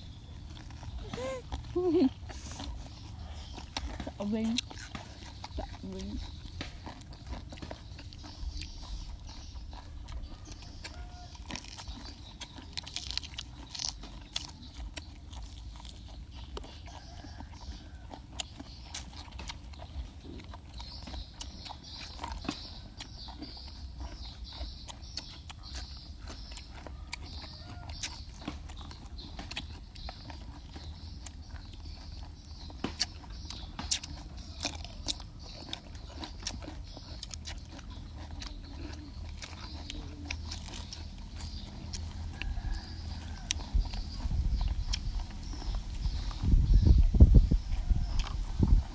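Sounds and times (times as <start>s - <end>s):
crunchy salad being chewed: 0.0s - 48.9s.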